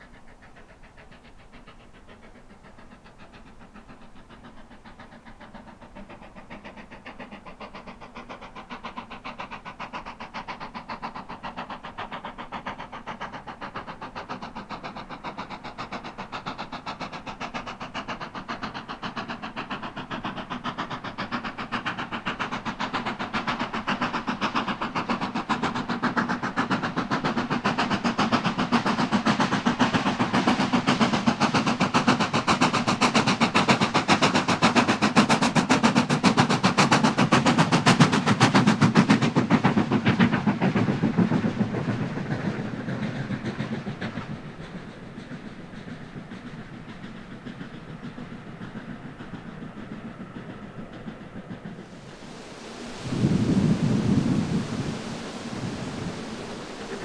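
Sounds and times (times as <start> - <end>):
steam train approaching: 0.0 - 57.0.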